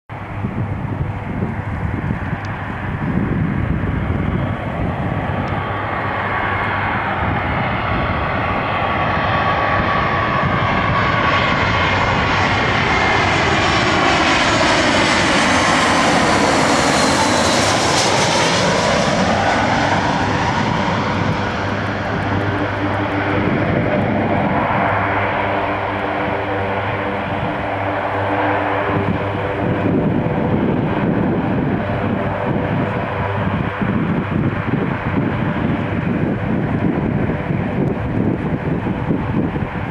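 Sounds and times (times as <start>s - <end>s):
jet plane flying overhead: 0.1s - 39.9s.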